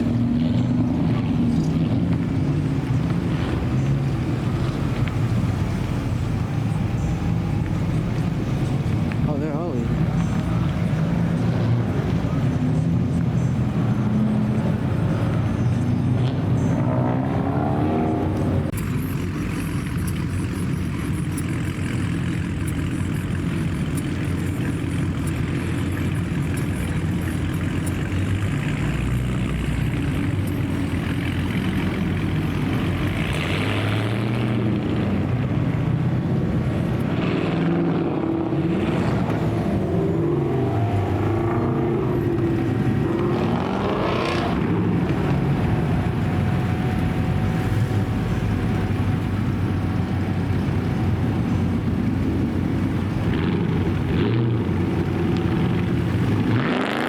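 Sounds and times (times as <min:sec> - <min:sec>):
car engines running: 0:00.0 - 0:57.0
rushes of exhaust noise: 0:00.0 - 0:57.0.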